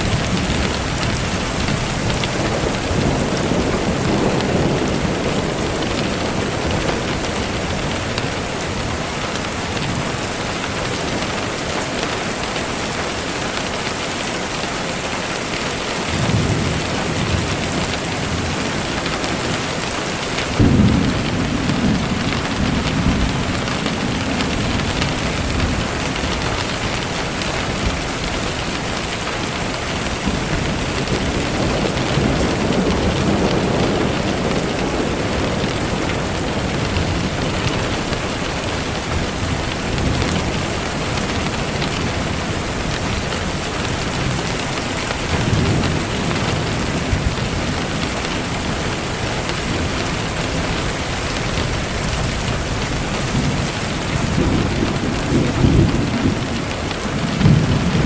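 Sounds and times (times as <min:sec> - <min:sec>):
thunderclap: 0:00.0 - 0:10.1, 0:16.0 - 0:58.0
low rolls of thunder: 0:00.0 - 0:10.2, 0:16.1 - 0:58.0
steady rainfall: 0:00.0 - 0:58.0.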